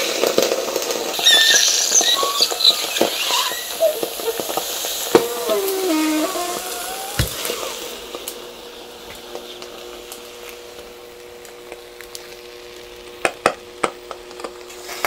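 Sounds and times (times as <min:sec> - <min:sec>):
food sizzling on hot plates: 0:00.0 - 0:15.0.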